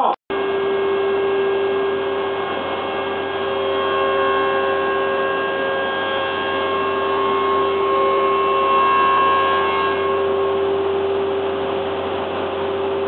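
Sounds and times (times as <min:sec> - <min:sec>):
higher machine tone: 0:00.0 - 0:13.0
woodworking machinery hum: 0:00.0 - 0:13.0.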